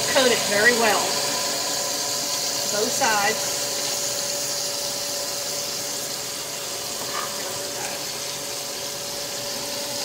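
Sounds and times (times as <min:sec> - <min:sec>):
chicken frying in oil: 0:00.0 - 0:10.0.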